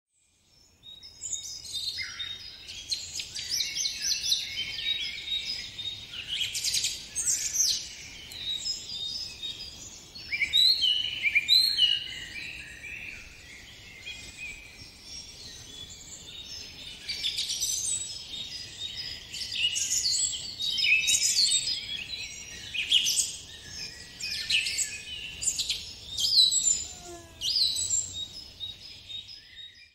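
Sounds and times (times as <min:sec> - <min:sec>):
songbirds chirping and singing: 0:00.2 - 0:29.9.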